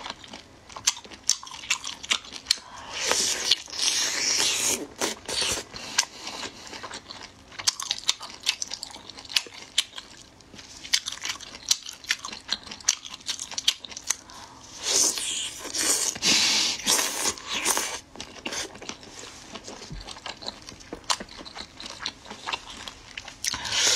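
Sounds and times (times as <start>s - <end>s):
person chewing with wet clicks: 0.0s - 3.8s, 5.0s - 14.4s, 16.9s - 23.8s.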